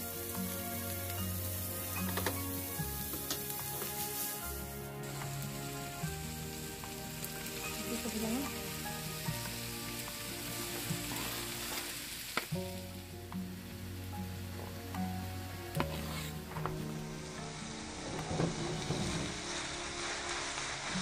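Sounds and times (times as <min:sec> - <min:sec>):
onion sizzling in a frying pan: 0:00.0 - 0:21.0
soft background music: 0:00.0 - 0:21.0.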